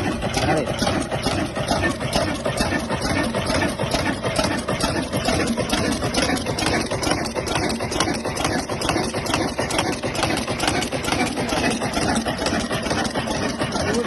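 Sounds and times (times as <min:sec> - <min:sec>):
old engine idling: 0:00.0 - 0:14.0.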